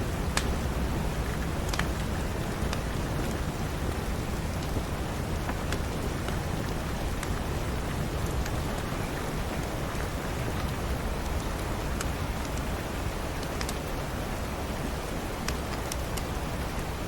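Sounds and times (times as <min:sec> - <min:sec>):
steady rain falling: 0:00.0 - 0:17.0
wood fire crackling: 0:00.0 - 0:17.0.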